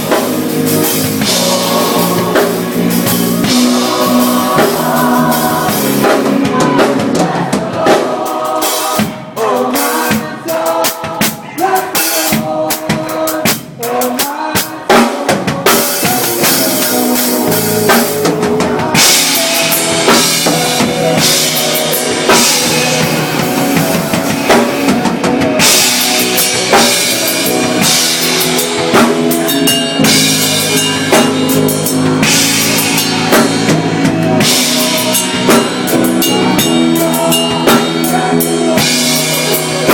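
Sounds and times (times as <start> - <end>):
drum hits: 0.0 - 13.9, 14.7 - 39.9
band playing: 0.0 - 39.9.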